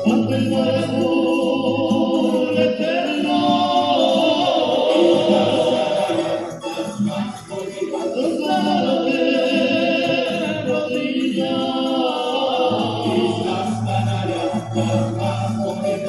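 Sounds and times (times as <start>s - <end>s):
guitars and lutes: 0.0s - 16.0s
men singing in chorus: 0.0s - 16.0s.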